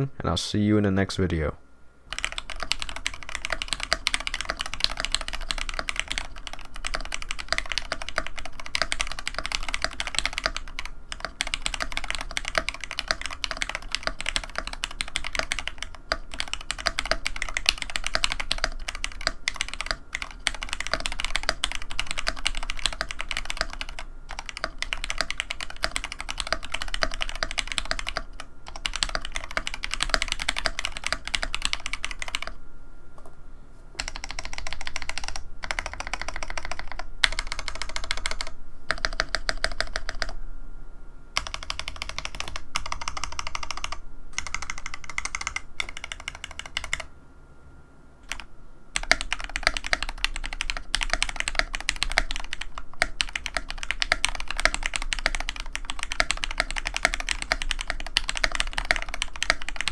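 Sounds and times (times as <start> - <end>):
mechanical keyboard typing: 2.1 - 32.6, 34.0 - 40.4, 41.4 - 47.1, 48.2 - 59.9.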